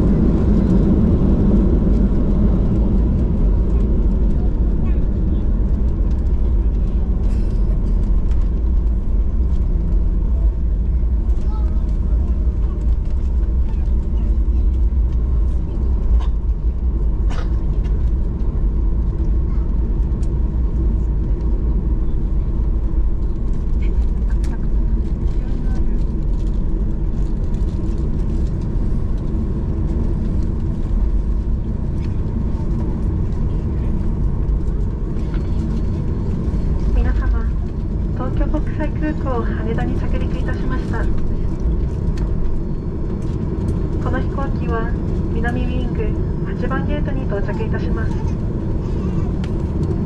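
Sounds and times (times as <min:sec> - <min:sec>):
airliner cabin rumble: 0:00.0 - 0:50.0.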